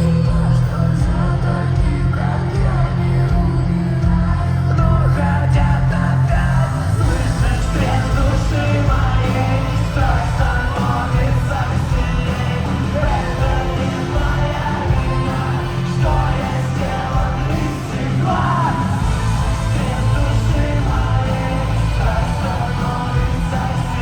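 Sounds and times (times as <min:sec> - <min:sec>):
crowd yelling: 0:00.0 - 0:24.0
live rock band playing: 0:00.0 - 0:24.0
person singing: 0:00.0 - 0:24.0.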